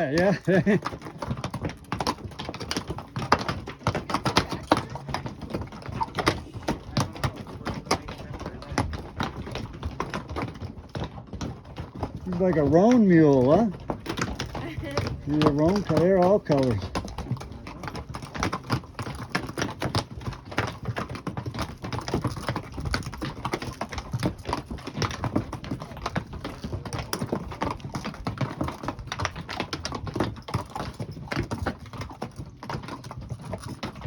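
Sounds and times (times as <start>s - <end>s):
mule hooves clopping: 0.0s - 34.0s.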